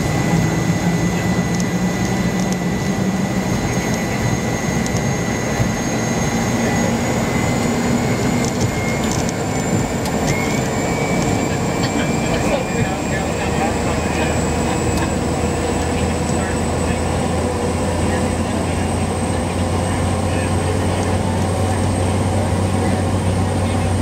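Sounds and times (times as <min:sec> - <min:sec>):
high engine whine: 0:00.0 - 0:24.0
turboprop engine and propeller: 0:00.0 - 0:24.0.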